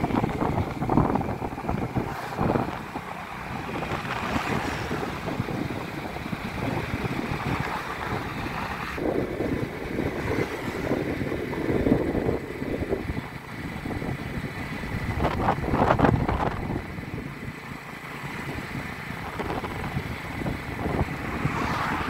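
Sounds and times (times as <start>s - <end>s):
low rumble of riding: 0.0s - 22.0s
wind buffeting microphone: 0.0s - 22.0s.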